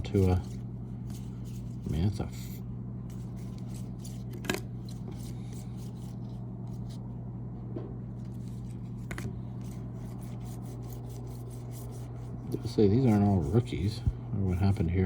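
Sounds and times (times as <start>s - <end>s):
trading cards sliding and rubbing: 0.0s - 7.0s, 8.2s - 15.0s
steady low hum: 0.0s - 15.0s.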